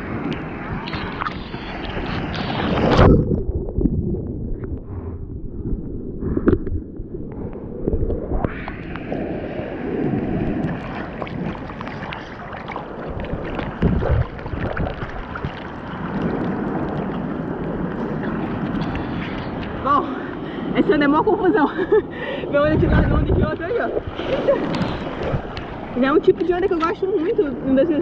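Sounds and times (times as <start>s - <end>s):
sea water splashing: 0.0s - 28.0s
wind on microphone: 0.0s - 28.0s.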